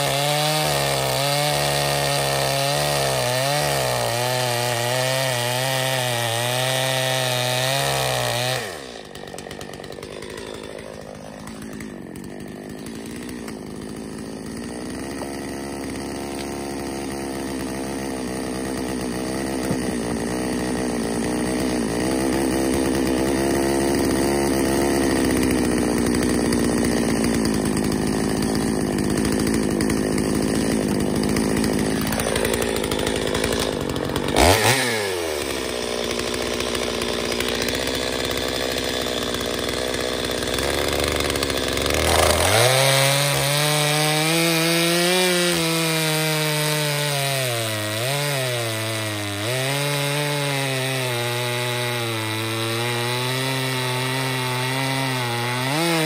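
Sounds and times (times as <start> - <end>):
chainsaw cutting wood: 0.0 - 56.0
chainsaw idling: 0.0 - 56.0.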